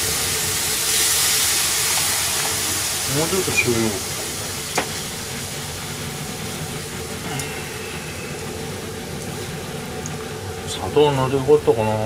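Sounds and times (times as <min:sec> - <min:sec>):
broth simmering hiss: 0:00.0 - 0:12.0.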